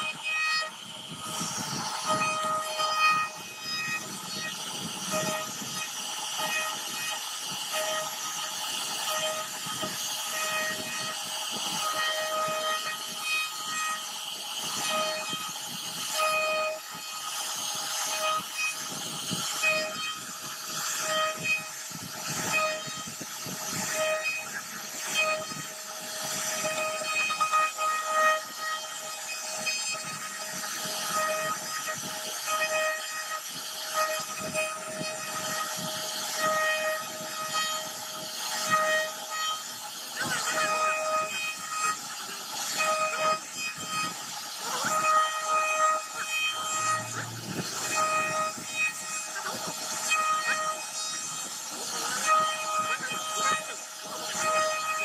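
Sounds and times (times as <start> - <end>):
rasping hiss of cutting wood: 0.0 - 55.0
router spindle whining: 0.0 - 55.0.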